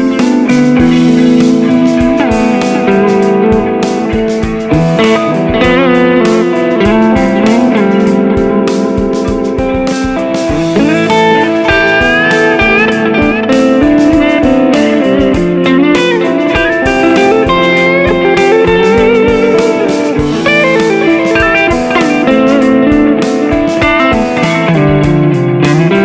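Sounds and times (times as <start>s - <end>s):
electric guitar melody: 0.0s - 26.0s
steady beat: 0.0s - 26.0s.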